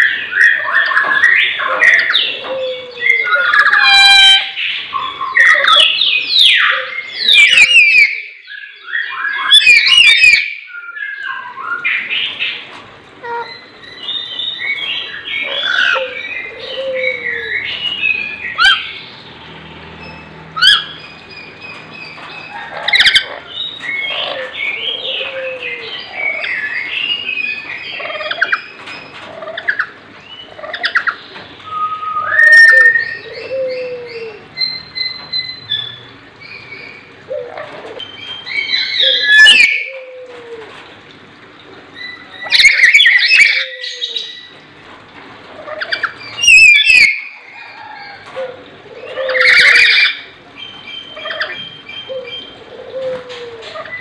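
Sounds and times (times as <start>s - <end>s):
parrots squawking and whistling: 0.0s - 8.3s, 13.2s - 19.1s, 20.0s - 28.7s, 30.5s - 40.4s, 42.0s - 44.5s, 45.5s - 54.0s.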